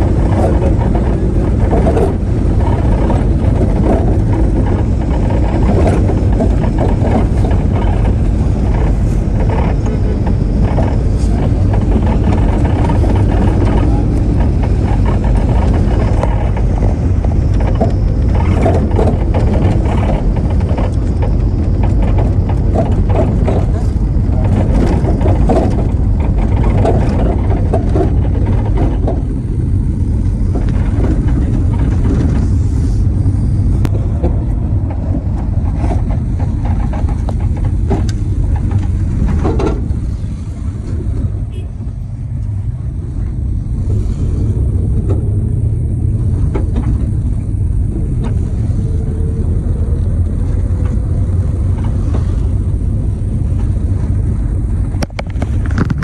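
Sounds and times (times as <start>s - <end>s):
knocks and rattles: 0.0s - 56.0s
vehicle engine and tyres rumbling: 0.0s - 56.0s.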